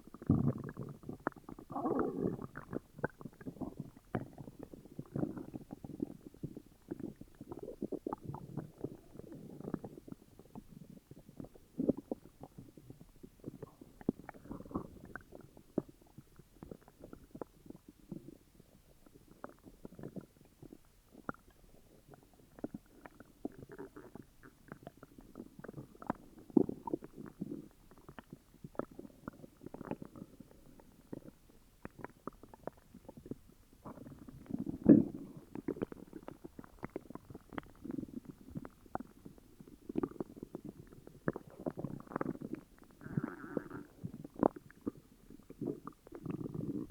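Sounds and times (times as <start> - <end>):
stomach growling and gurgling: 0.0 - 46.9.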